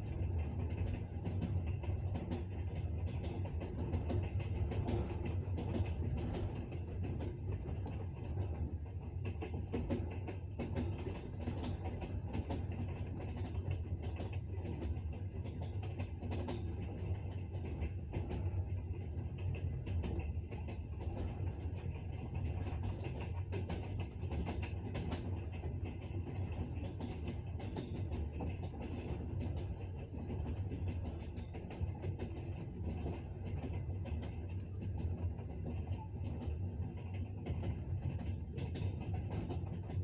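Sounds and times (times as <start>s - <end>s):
train low rumble: 0.0s - 40.0s
train wheels clattering on rails: 0.0s - 40.0s.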